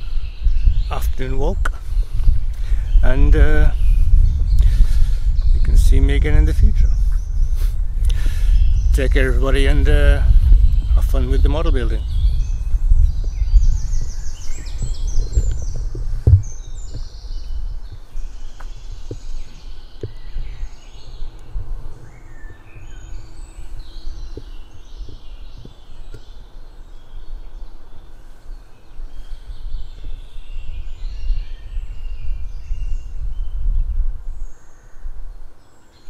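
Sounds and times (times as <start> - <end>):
low microphone rumble: 0.0 - 35.4
woodland birds singing: 0.0 - 36.0.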